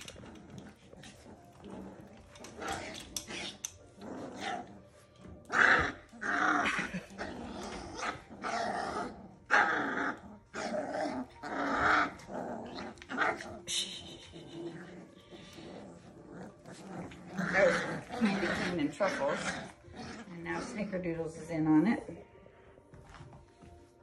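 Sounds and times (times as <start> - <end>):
puppies growling: 0.0 - 22.8.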